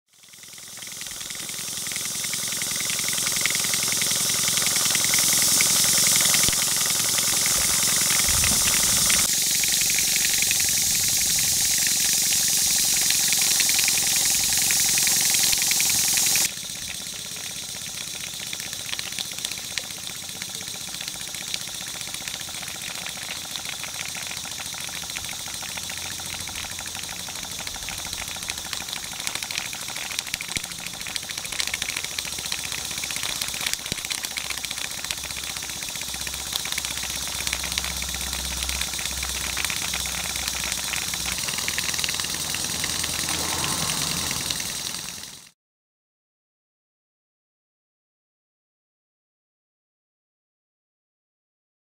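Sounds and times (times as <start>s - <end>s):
steam hissing: 0.2s - 45.5s
steam engine beating: 0.3s - 45.5s.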